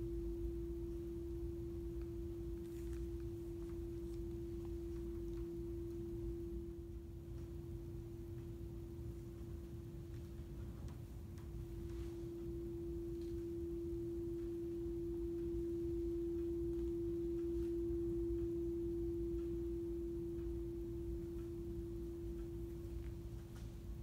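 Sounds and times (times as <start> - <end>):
steady sine tone: 0.0 - 24.0.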